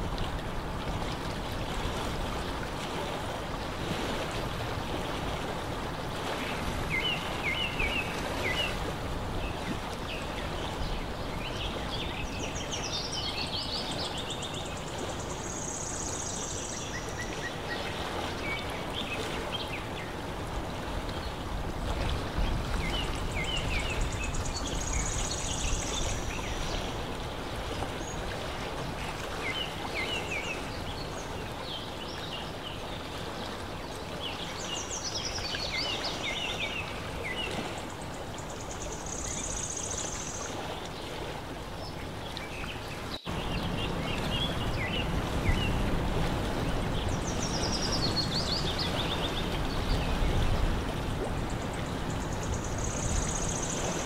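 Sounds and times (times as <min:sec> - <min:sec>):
lake water lapping: 0:00.0 - 0:54.0.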